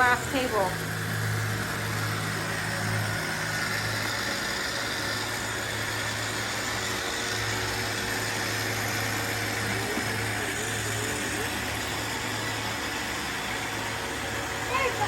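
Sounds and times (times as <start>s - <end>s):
robot vacuum cleaner humming: 0.0s - 15.0s.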